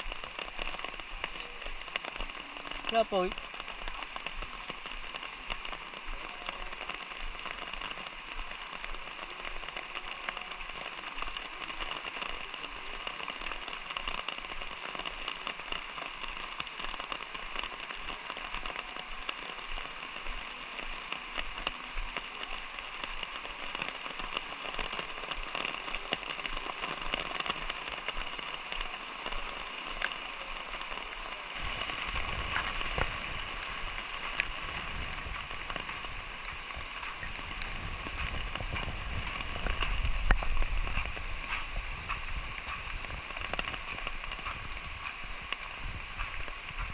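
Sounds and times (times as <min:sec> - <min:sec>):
light rain pattering: 0:00.0 - 0:46.9.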